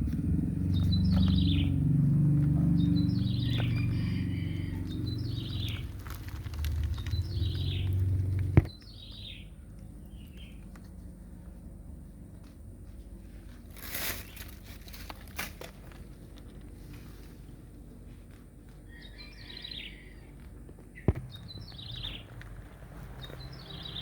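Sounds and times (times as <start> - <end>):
low steady hum: 0.0 - 23.6.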